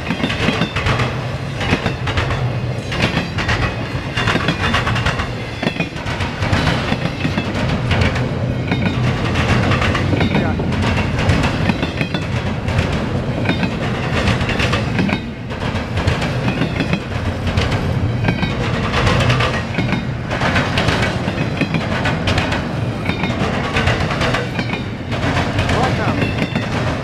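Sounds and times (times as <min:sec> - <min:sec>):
steel wheels rumbling on rail: 0:00.0 - 0:27.0
wheels clanking over rail joints: 0:00.0 - 0:27.0.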